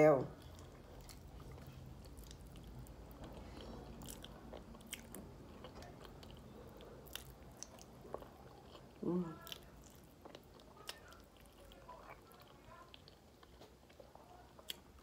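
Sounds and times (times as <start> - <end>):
person chewing chicken: 0.4 - 15.0.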